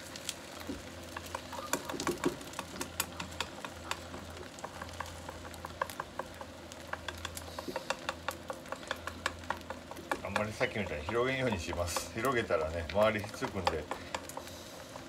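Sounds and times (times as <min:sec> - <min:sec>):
egg sizzling in pan: 0:00.0 - 0:15.0
chopsticks tapping frying pan: 0:00.8 - 0:15.0.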